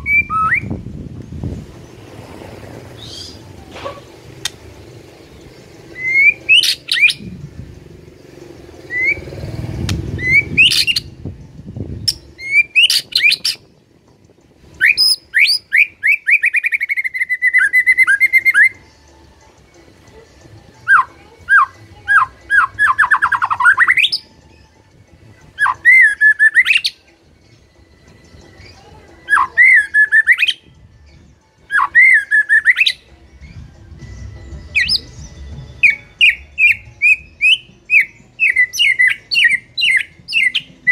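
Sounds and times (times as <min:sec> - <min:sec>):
songbird singing whistles and trills: 0:00.0 - 0:01.7, 0:03.0 - 0:07.7, 0:08.6 - 0:40.9.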